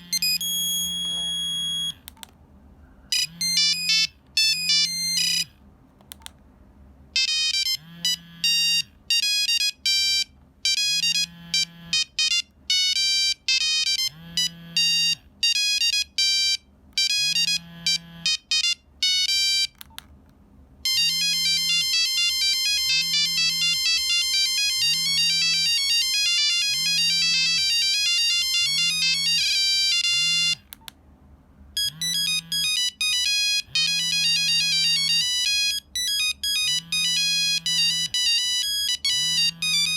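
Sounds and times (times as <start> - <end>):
mobile phone beeping ringtone: 0.0 - 2.0, 3.1 - 5.5, 7.2 - 19.8, 20.9 - 30.7, 31.8 - 39.9.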